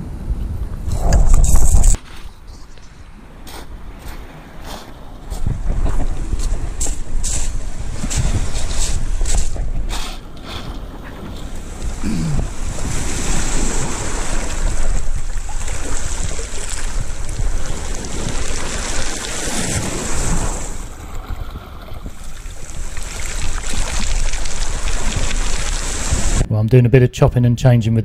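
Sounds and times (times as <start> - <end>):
wind buffeting microphone: 0.0 - 26.5
waves washing over shingle: 3.4 - 26.5.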